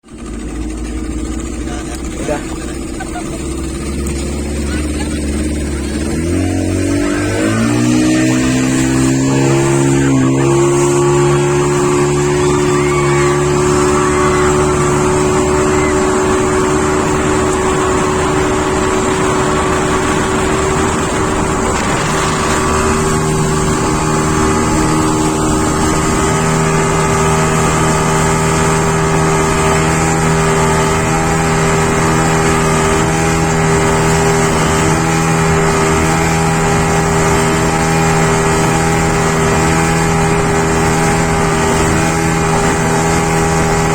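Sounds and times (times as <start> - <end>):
motorboat engine running: 0.0 - 43.9
water rushing: 0.0 - 43.9
rushing wind: 5.3 - 43.9.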